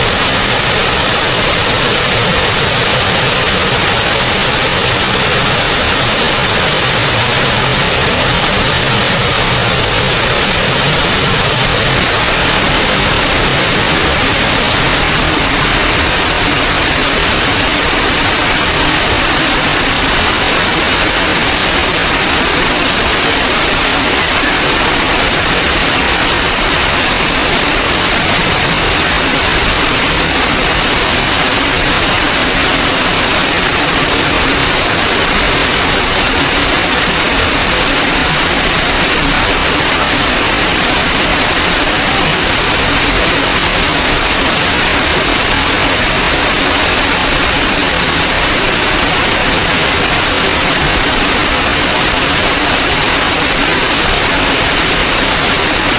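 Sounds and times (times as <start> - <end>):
small waterfall rushing: 0.0 - 55.9.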